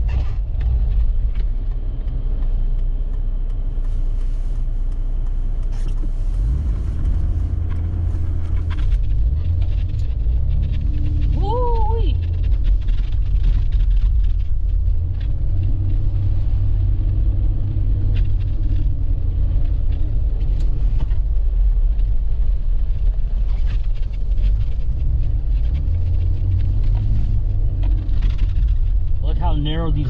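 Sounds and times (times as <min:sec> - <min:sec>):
vehicle driving through snow: 0:00.0 - 0:30.0.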